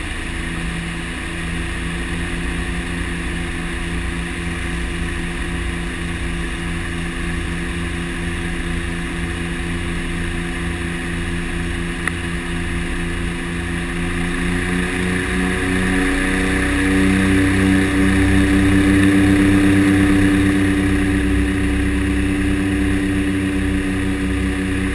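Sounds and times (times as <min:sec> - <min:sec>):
turboprop engines droning: 0:00.0 - 0:24.9.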